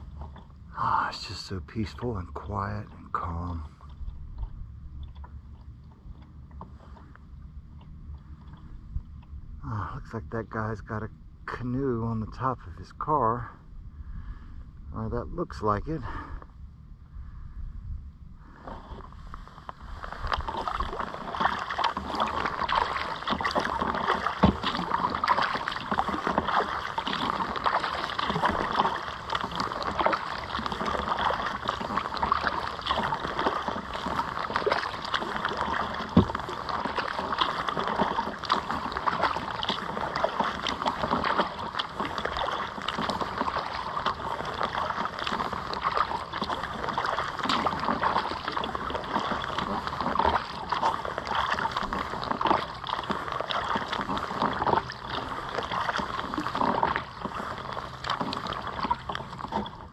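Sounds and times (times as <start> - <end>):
water lapping against kayak hull: 0.0 - 59.9.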